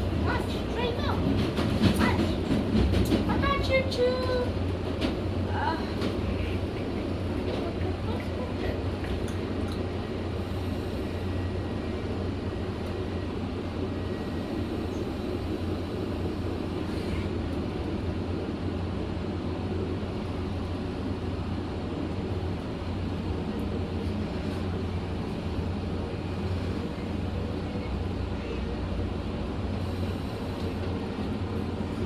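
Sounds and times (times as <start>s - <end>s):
train car rumble and hum: 0.0s - 32.0s.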